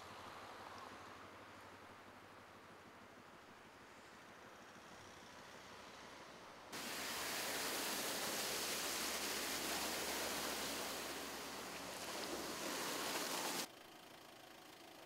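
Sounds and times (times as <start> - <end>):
steady outdoor hiss: 0.0 - 14.2.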